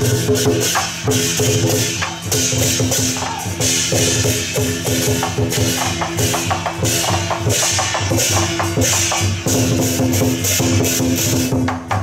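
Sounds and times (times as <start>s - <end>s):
crashing cymbals: 0.0s - 12.0s
drum beating: 0.0s - 12.0s.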